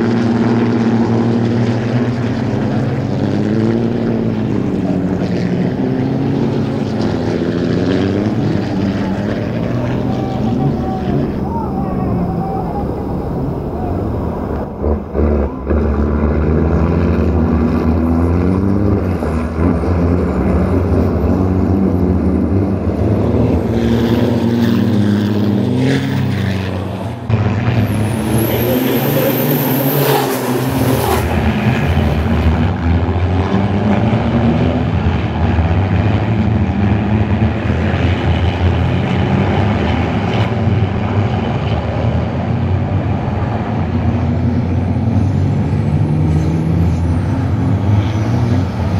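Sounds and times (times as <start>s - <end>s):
truck engines accelerating: 0.0s - 48.9s.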